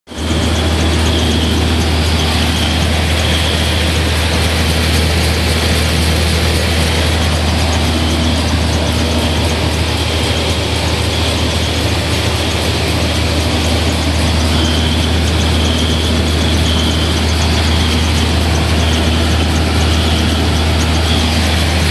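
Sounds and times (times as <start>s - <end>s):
grain rattling through mill: 0.1s - 21.9s
rice mill motor hum: 0.1s - 21.9s.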